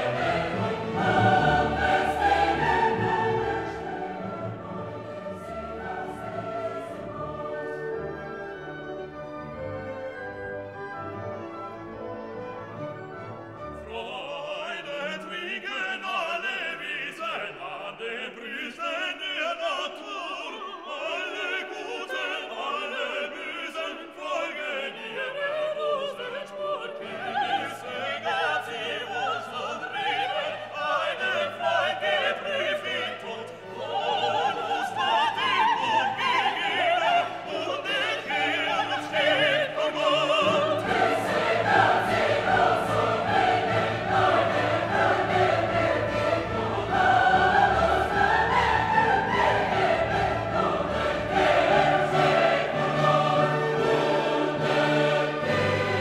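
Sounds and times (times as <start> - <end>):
classical music with singing: 0.0 - 56.0.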